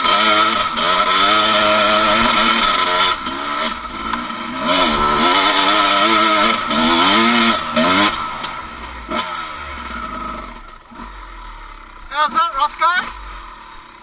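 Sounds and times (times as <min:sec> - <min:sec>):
two-stroke engine revving: 0:00.0 - 0:11.9.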